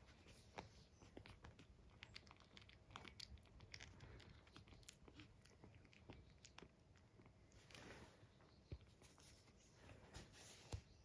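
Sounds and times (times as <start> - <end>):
puppies squirming on blanket: 0.0 - 11.0.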